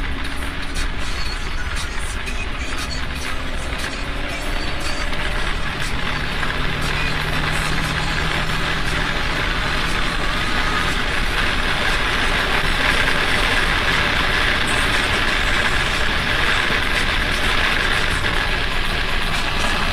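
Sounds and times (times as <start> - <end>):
car engine droning at speed: 0.0 - 19.9
road and wind noise: 0.0 - 19.9.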